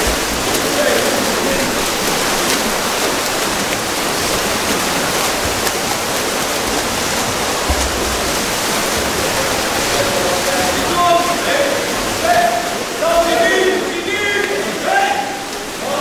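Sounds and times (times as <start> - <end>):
swimmers splashing in a pool: 0.0 - 16.0.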